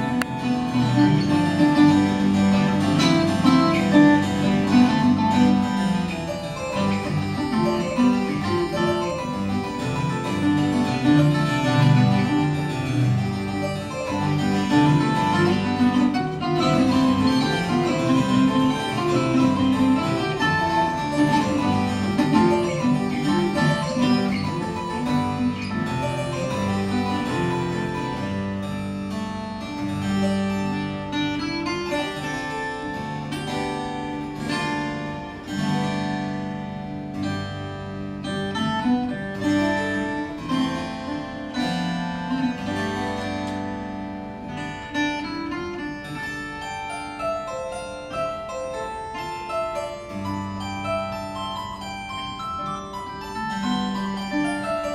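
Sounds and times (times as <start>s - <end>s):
gourd viola plucked notes: 0.0s - 54.9s
harpsichord plucked notes: 0.0s - 54.9s.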